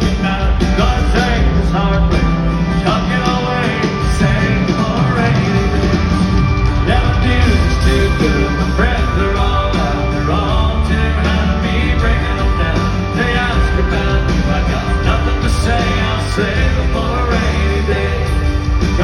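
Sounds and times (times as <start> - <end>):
country-rock band playing: 0.0 - 19.0.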